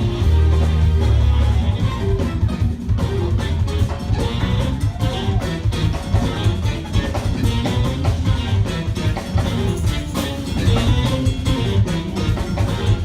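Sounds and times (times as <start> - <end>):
funk band playing live: 0.0 - 13.0.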